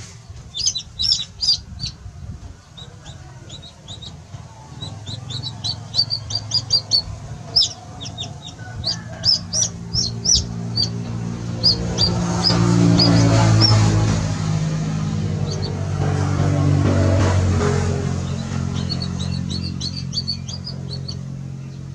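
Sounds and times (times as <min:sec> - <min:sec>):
baby chicks peeping: 0:00.0 - 0:21.9.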